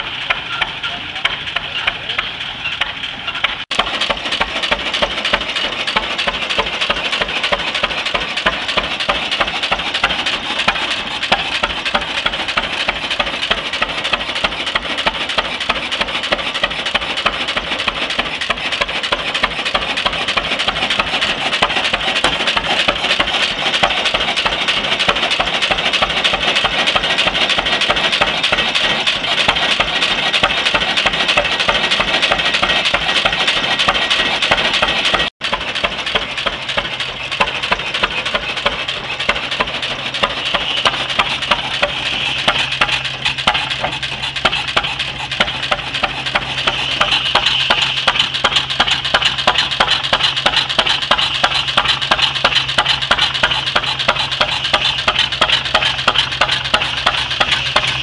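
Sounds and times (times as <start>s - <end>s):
gas engine running: 0.0s - 58.0s
metallic clattering strokes: 1.2s - 58.0s.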